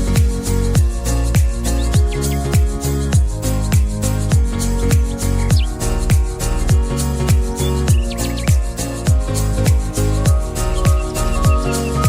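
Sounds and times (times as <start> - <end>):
deep kick drum: 0.2 - 11.7.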